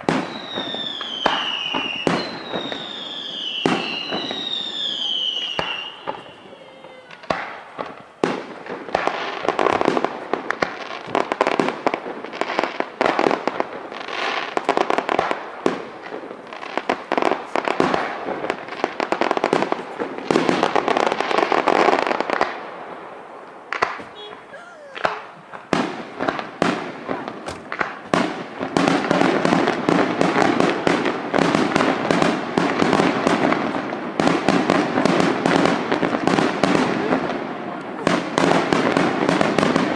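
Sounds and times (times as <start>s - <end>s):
fireworks bursting with bangs: 0.0s - 39.9s
fireworks crackling: 0.0s - 39.9s.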